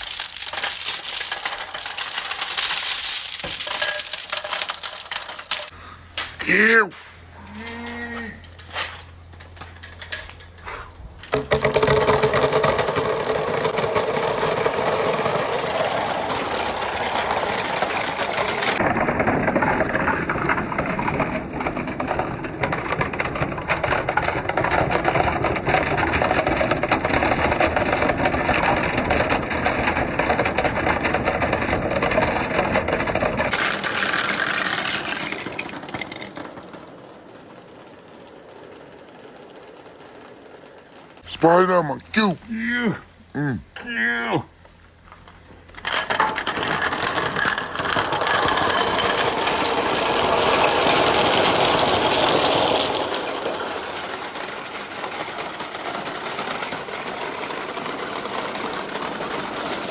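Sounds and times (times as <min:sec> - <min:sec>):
glass marbles rattling down a run: 0:00.0 - 0:05.8, 0:11.3 - 0:41.8, 0:45.7 - 0:59.9.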